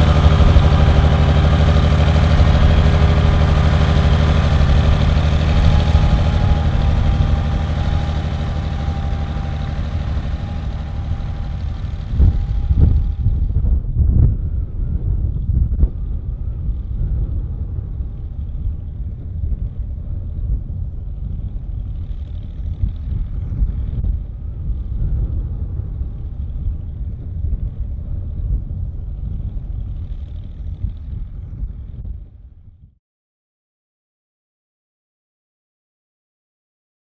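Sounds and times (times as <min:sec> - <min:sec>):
steady low rumble: 0:00.0 - 0:33.0
faint hum: 0:02.4 - 0:32.9.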